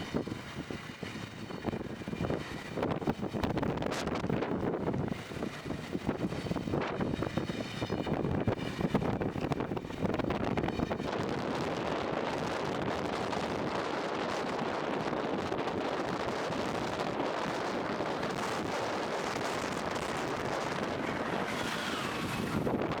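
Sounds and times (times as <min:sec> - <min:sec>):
train wheels roaring on rails: 0:00.0 - 0:23.0
wind on microphone: 0:00.0 - 0:23.0.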